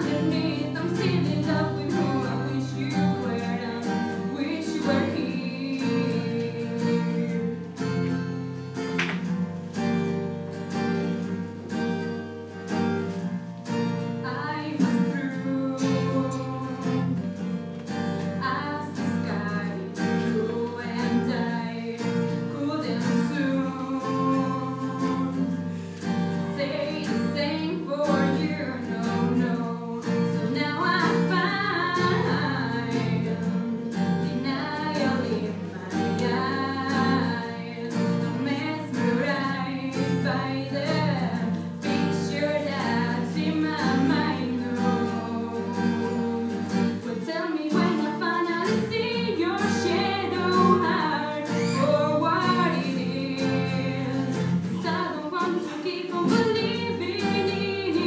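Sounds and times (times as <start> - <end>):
woman singing: 0.0 - 8.4, 14.0 - 58.0
acoustic guitar strumming: 0.0 - 58.0.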